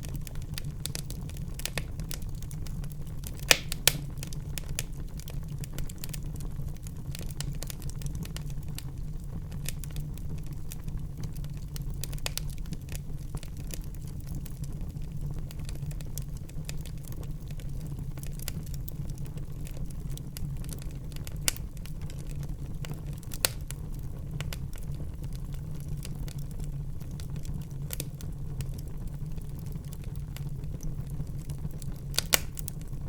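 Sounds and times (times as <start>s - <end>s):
fire crackling and popping: 0.0s - 33.0s
fire flames rumbling: 0.0s - 33.0s.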